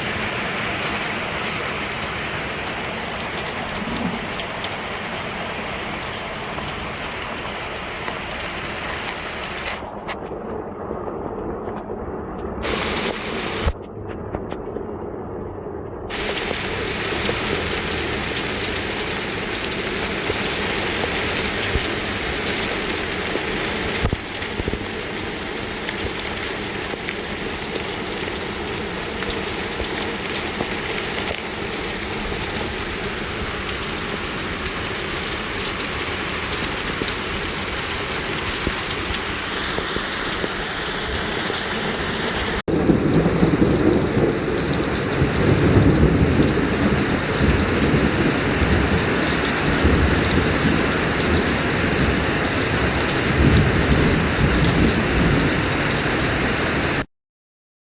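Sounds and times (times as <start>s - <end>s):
steady rain falling: 0.0s - 13.8s, 16.1s - 57.1s.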